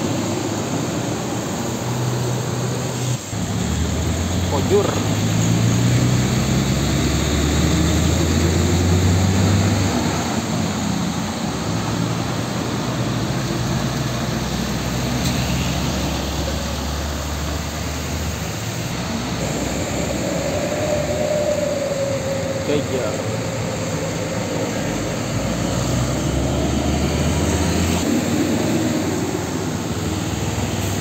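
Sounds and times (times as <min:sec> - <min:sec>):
road noise: 0:00.0 - 0:31.0
truck engine hum: 0:00.0 - 0:31.0.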